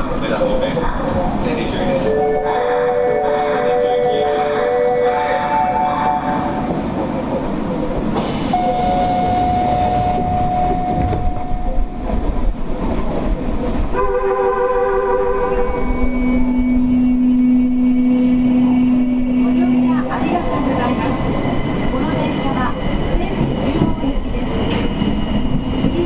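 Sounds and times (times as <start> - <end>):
subway train noise: 0.0 - 26.0.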